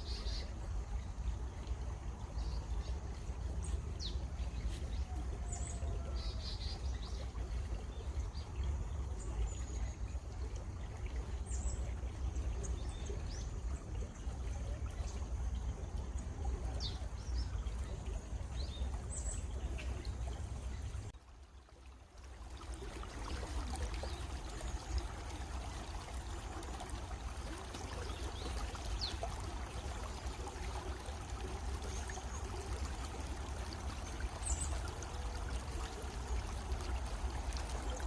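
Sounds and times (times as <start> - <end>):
running water: 0.0 - 38.0.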